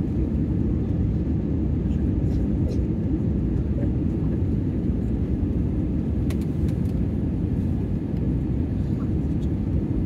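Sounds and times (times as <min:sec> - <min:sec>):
jet engines and airflow rumble: 0:00.0 - 0:10.0.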